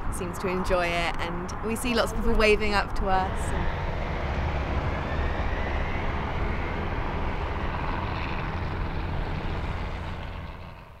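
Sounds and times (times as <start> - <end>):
propeller engines droning: 0.0 - 11.0.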